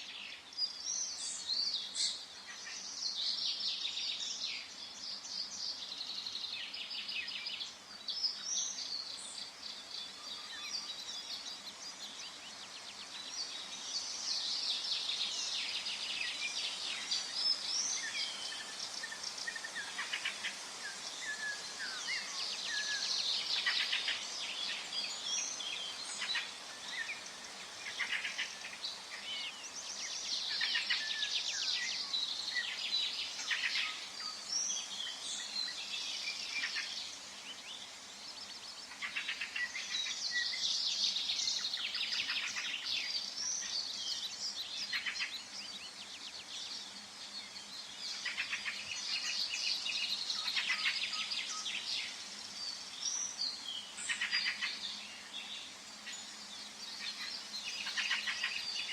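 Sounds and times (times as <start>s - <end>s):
birds trilling song: 0.0s - 58.9s
faint background hiss: 0.0s - 58.9s.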